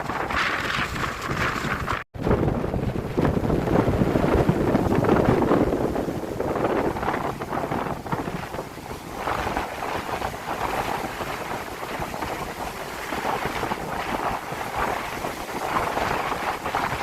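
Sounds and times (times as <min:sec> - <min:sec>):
strong wind buffeting microphone: 0:00.0 - 0:17.0
surf on shore: 0:00.0 - 0:17.0.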